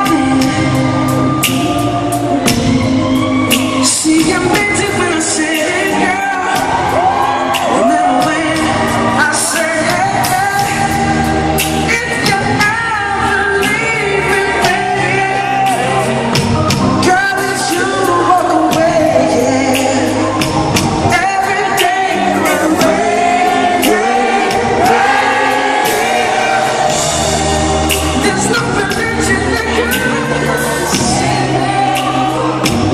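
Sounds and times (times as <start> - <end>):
man singing: 0.0 - 1.7, 3.8 - 16.2, 17.0 - 26.8, 28.0 - 32.9
live pop band: 0.0 - 32.9.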